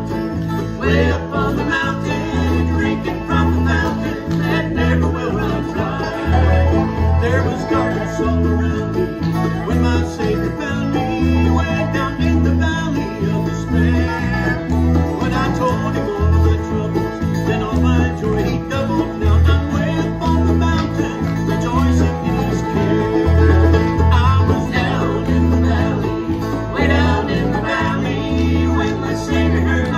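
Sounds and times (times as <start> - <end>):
bass guitar walking line: 0.0 - 29.9
picked banjo: 0.0 - 29.9
resonator guitar: 0.0 - 29.9
strummed acoustic guitars: 0.0 - 29.9.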